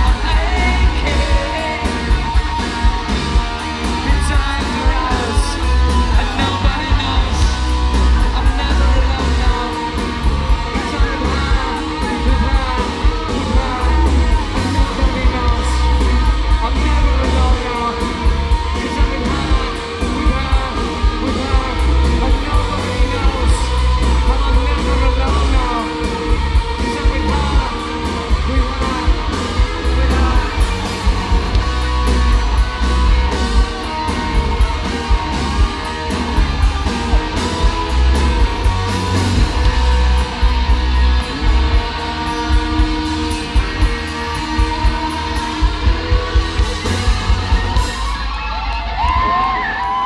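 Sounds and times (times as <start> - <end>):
bass guitar: 0.0 - 50.0
distorted electric guitars: 0.0 - 50.0
steady drum beat: 0.0 - 50.0.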